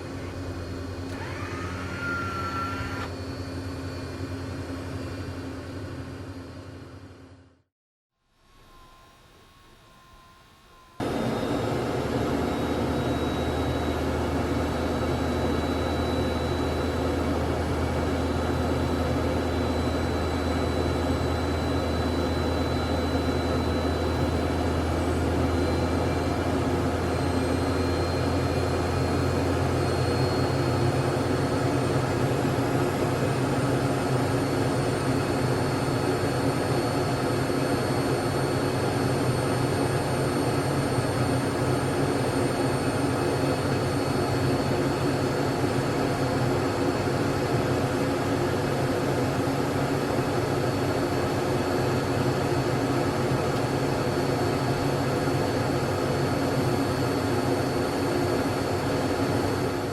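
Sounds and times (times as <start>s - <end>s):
jet engine drone: 0.0s - 7.5s, 8.4s - 59.9s
faint high whine rising: 8.2s - 59.9s.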